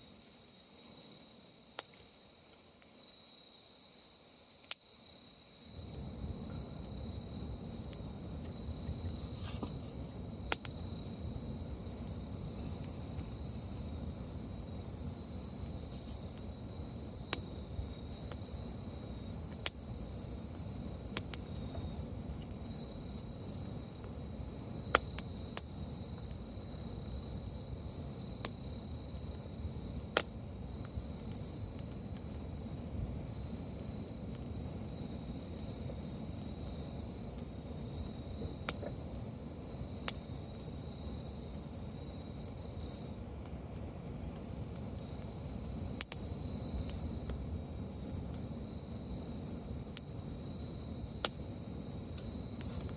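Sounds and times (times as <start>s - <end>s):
crickets chirping: 0.0s - 52.9s
campfire crackling and popping: 4.7s - 52.9s.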